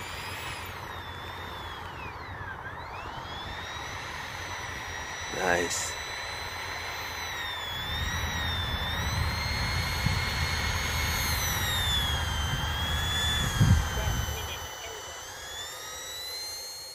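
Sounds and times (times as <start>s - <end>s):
electric ducted fans whining: 0.0s - 16.9s.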